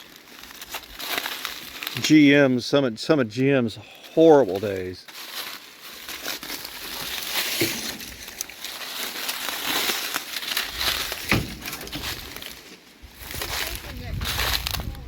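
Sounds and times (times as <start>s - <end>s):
footsteps crunching through dry debris: 0.0s - 2.4s, 3.9s - 15.0s.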